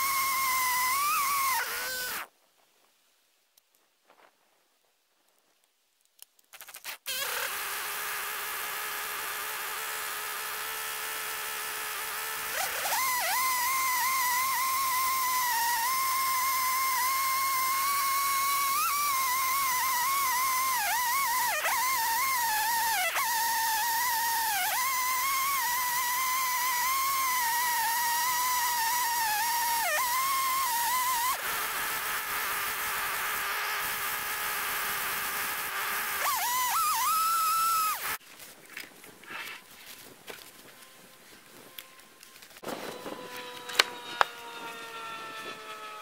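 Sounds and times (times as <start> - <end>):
chainsaw ripping through log: 0.0 - 2.3, 6.5 - 38.2, 42.6 - 46.0.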